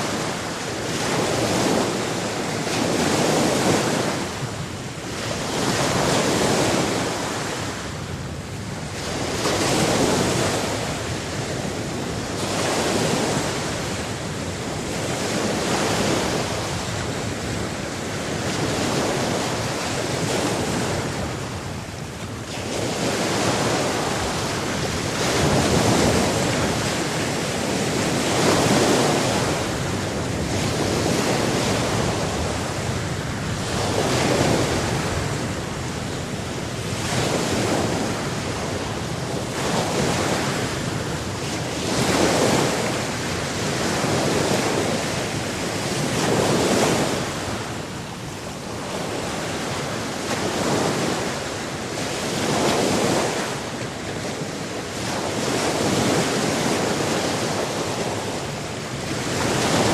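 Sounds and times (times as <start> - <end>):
sea waves breaking: 0.0 - 59.9.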